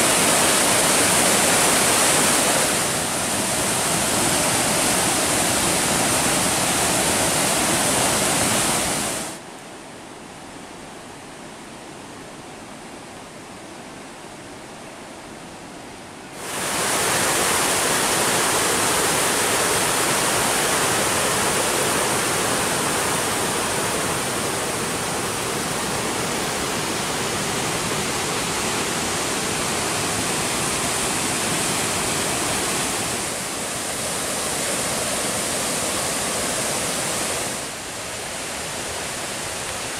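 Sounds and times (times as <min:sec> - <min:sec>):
water rushing over boulders: 0:00.0 - 0:09.4, 0:16.3 - 0:39.9.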